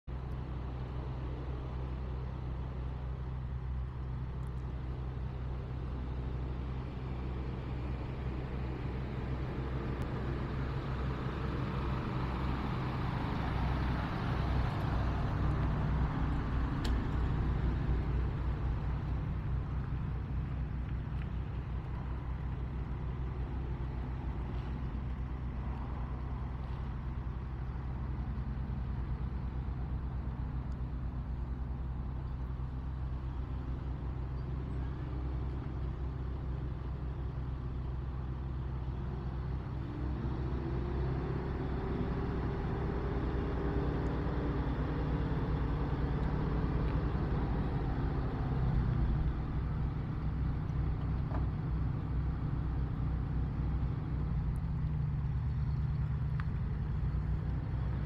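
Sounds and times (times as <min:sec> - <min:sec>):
truck engine running: 0:00.1 - 0:58.0.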